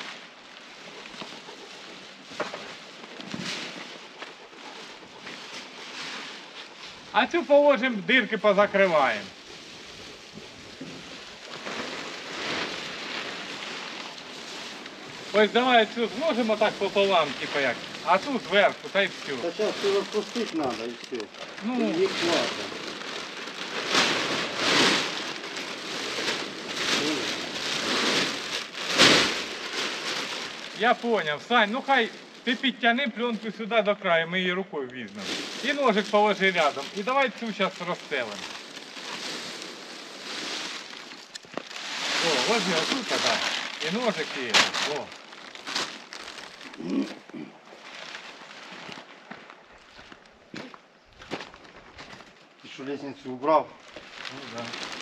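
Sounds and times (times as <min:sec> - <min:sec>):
plastic sheeting crinkling: 0:00.0 - 0:55.0.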